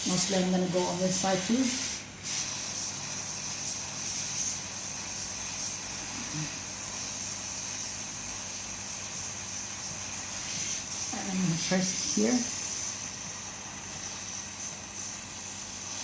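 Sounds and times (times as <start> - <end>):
hot-air blower hissing: 0.0 - 16.0.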